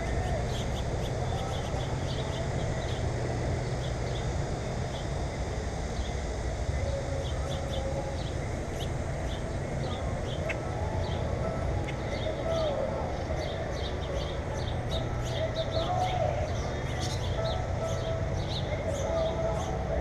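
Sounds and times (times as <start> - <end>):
small birds chirping: 0.0 - 19.9
steady low rumble: 0.0 - 20.0.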